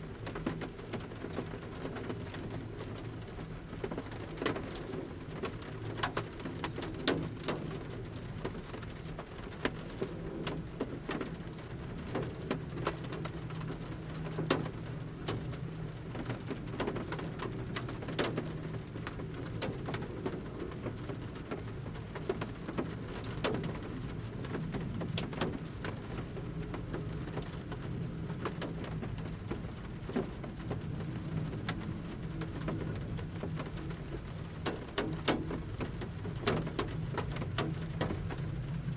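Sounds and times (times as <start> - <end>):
light rain: 0.0 - 38.9
raindrops tapping on van roof: 0.0 - 38.9.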